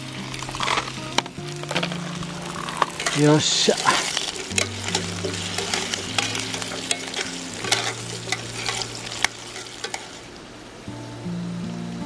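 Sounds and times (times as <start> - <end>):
food sizzling in a pan: 0.0 - 12.0
utensil scraping metal pan: 0.3 - 10.3.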